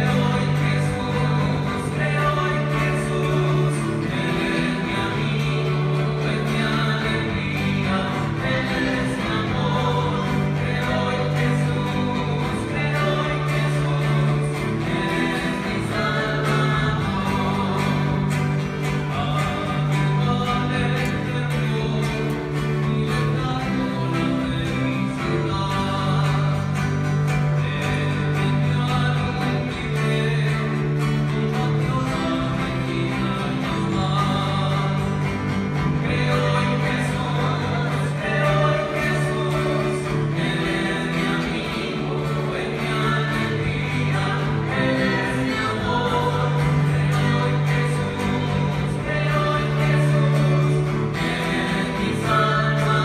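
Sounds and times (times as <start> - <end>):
congregation singing a hymn: 0.0 - 53.0.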